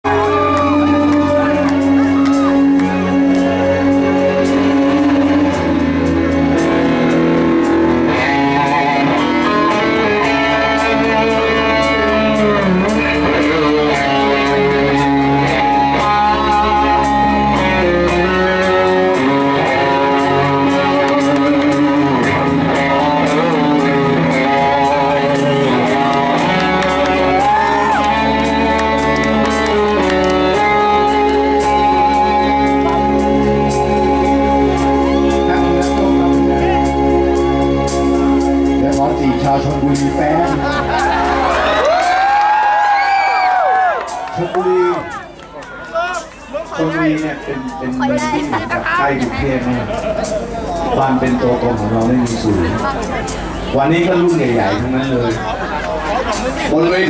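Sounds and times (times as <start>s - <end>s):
bass: 0.0s - 57.0s
electric guitar lead melody: 0.0s - 57.0s.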